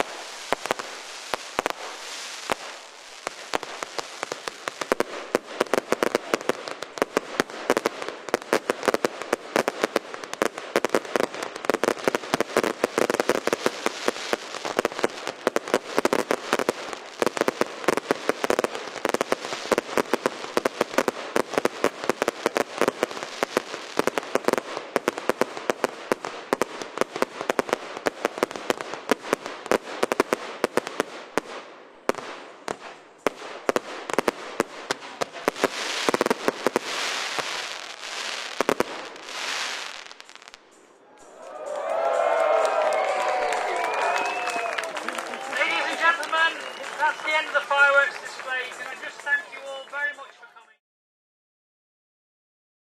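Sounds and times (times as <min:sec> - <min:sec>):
fireworks crackling: 0:00.0 - 0:50.8.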